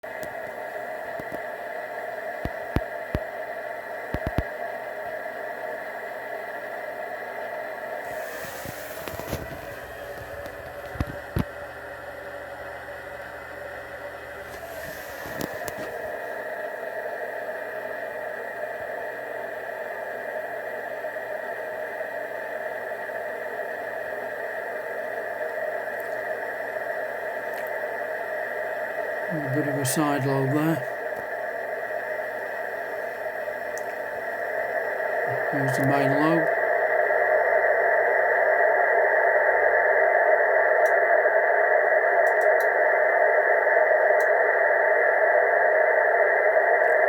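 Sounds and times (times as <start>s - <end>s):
radio receiver hiss: 0.0s - 47.0s.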